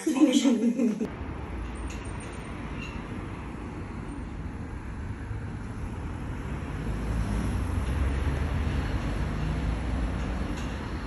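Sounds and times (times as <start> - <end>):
low rumble of road traffic: 1.0 - 11.0.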